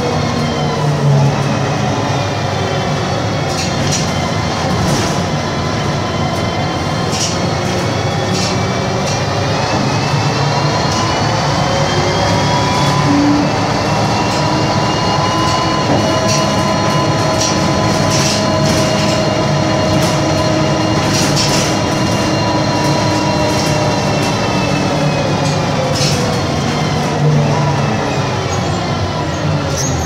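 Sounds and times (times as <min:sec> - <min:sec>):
bus engine drone with whine: 0:00.0 - 0:30.0.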